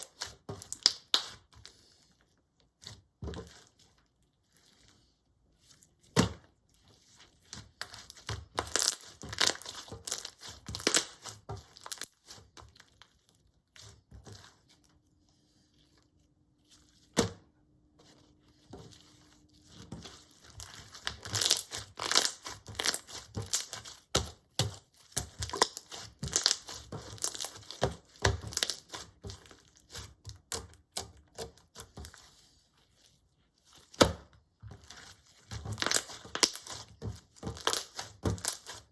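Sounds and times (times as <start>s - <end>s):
slime squelching by hand: 0.0s - 38.9s.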